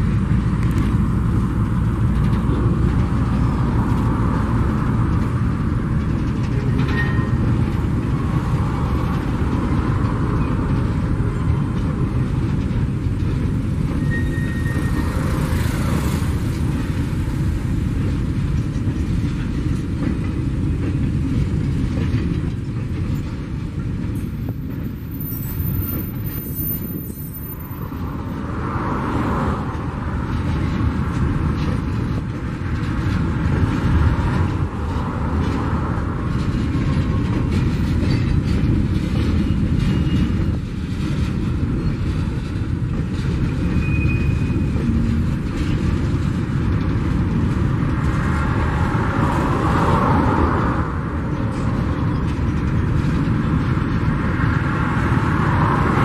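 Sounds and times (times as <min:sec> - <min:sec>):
train wheels rumbling on rail: 0:00.0 - 0:56.0
wheels knocking on rail joints: 0:00.0 - 0:56.0.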